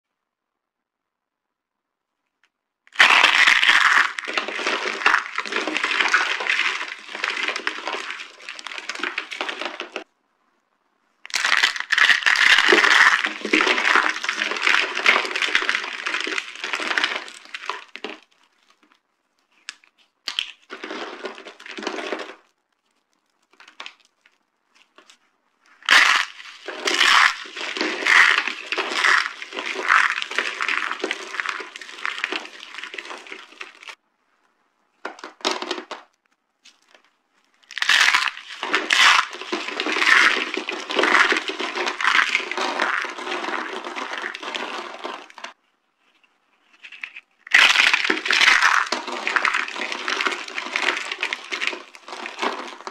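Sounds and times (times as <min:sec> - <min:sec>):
soap being crushed crunching: 0:02.9 - 0:10.1, 0:11.3 - 0:34.0, 0:35.0 - 0:52.9.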